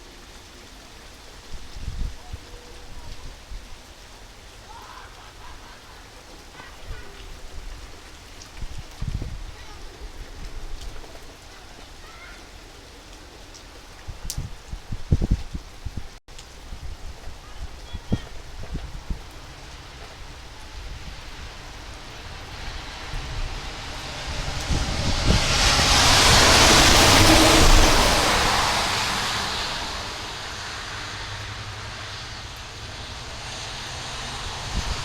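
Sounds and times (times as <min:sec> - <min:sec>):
rain: 0:00.0 - 0:35.0
wind: 0:00.0 - 0:35.0.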